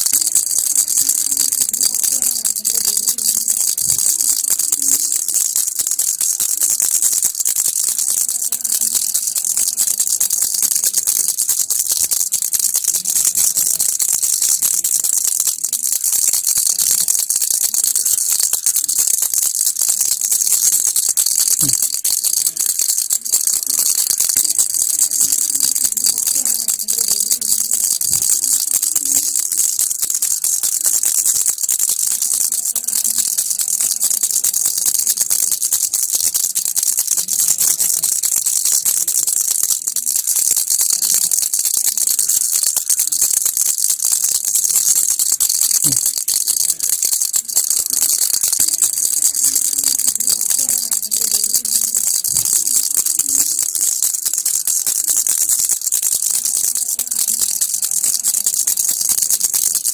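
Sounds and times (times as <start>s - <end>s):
baby rattle shaken: 0.0s - 59.9s.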